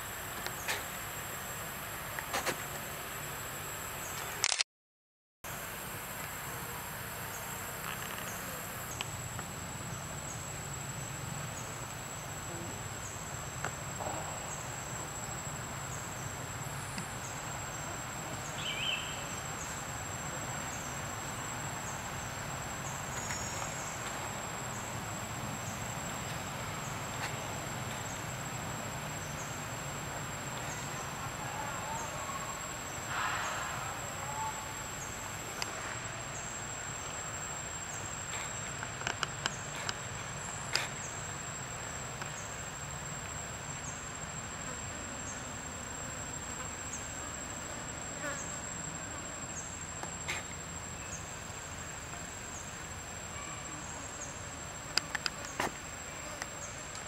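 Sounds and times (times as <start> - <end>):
forest insects droning: 0.0 - 4.6, 5.5 - 57.0.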